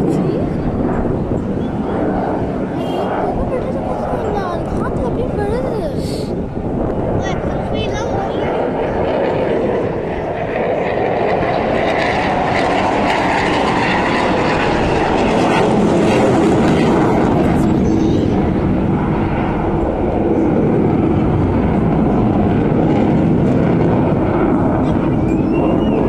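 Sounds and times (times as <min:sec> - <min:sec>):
jet engine rumble overhead: 0:00.0 - 0:26.0.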